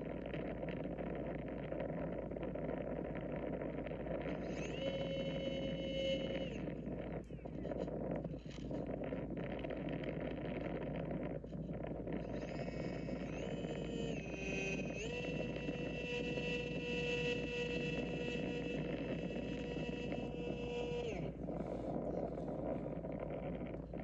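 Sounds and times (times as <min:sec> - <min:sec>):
model plane motor whining: 0:00.0 - 0:24.0.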